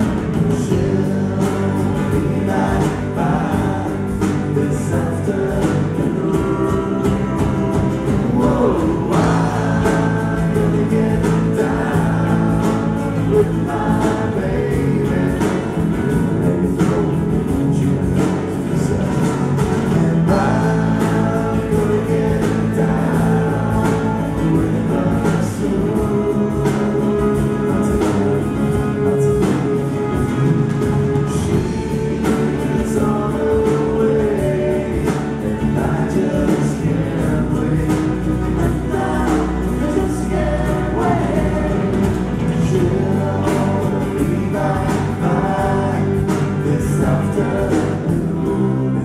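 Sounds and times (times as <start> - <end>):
acoustic guitar: 0.0 - 49.0
drum kit beat: 0.0 - 49.0
person singing: 0.0 - 49.0.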